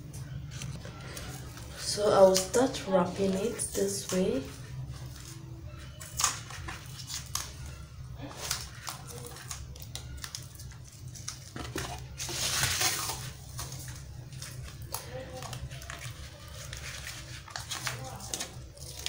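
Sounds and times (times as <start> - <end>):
masking tape peeling: 3.4 - 19.0.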